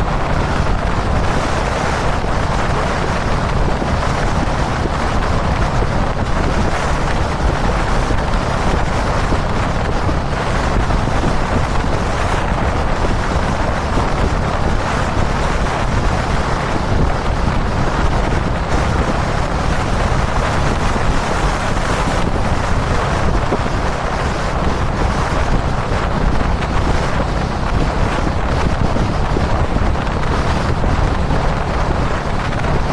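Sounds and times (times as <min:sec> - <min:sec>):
motorcycle engine cruising: 0:00.0 - 0:32.9
wind buffeting microphone: 0:00.0 - 0:32.9.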